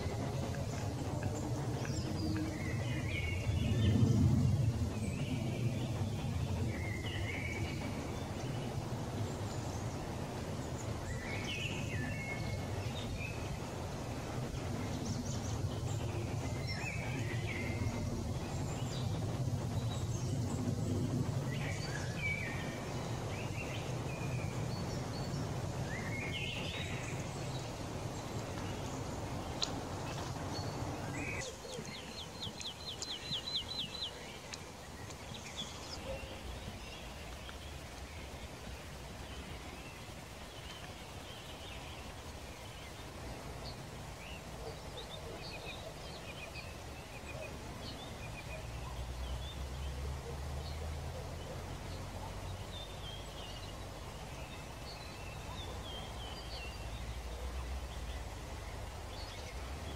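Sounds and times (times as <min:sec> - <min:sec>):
songbirds singing: 0:00.0 - 0:59.9
steady low rumble: 0:00.0 - 0:59.9.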